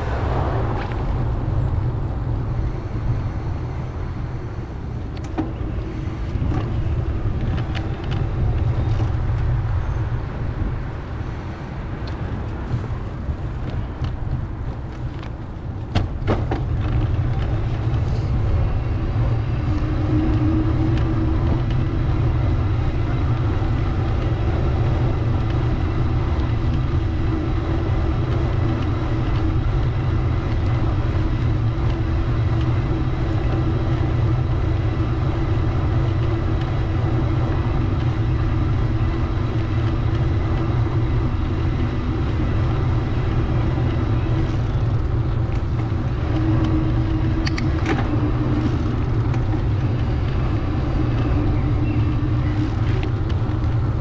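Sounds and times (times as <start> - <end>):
engine hum: 0.0 - 54.0
motor vehicles: 0.0 - 54.0
road and wind rumble: 0.0 - 54.0.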